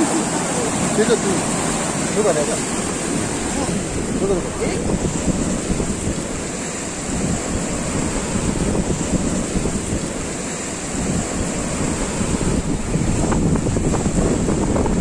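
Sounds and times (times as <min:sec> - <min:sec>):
surf washing over rocky shore: 0:00.0 - 0:15.0
wind buffeting microphone: 0:00.0 - 0:15.0.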